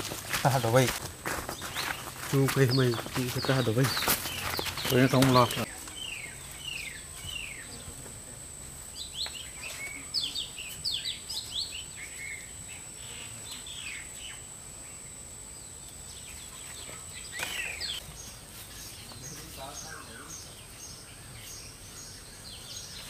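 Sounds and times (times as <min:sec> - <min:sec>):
constant thin high tone: 0:00.0 - 0:23.0
small birds chirping: 0:00.0 - 0:23.0
steady outdoor hiss: 0:00.0 - 0:23.0.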